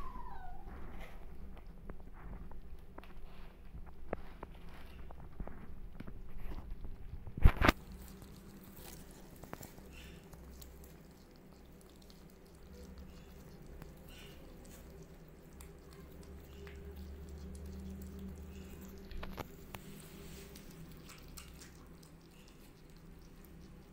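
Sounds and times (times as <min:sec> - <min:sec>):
low steady hum: 0:00.0 - 0:23.9
kittens crunching dry food: 0:00.8 - 0:23.9.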